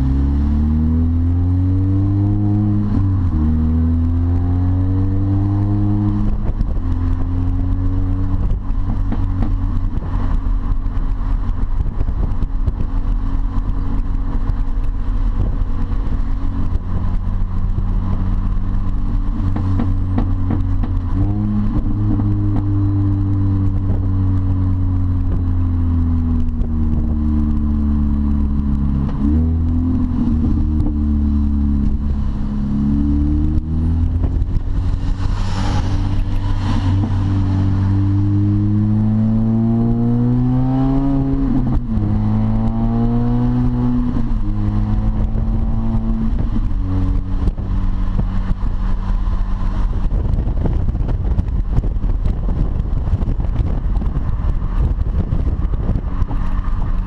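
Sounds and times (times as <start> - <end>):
car engine droning in cabin: 0.0 - 57.0.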